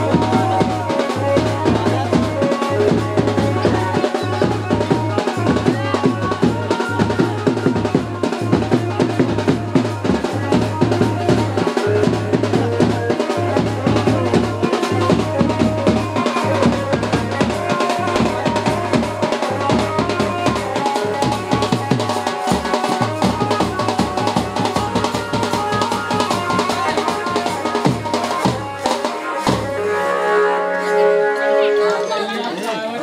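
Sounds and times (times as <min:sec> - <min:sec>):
drums playing fast beat: 0:00.0 - 0:29.9.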